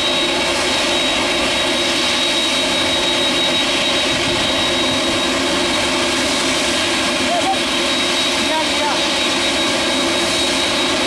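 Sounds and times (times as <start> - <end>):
high engine whine: 0.0 - 11.0
jet engines rushing hum: 0.0 - 11.0.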